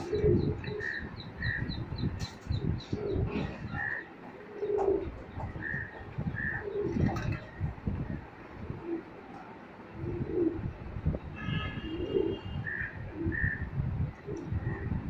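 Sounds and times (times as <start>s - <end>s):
pigeons cooing: 0.0s - 9.2s, 9.9s - 10.7s, 11.8s - 15.0s.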